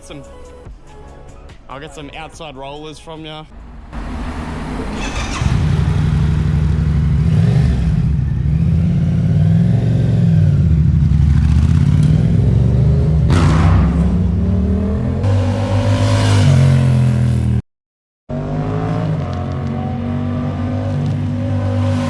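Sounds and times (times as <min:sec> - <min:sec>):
vehicle engine revving: 0:03.6 - 0:17.6, 0:18.3 - 0:22.0.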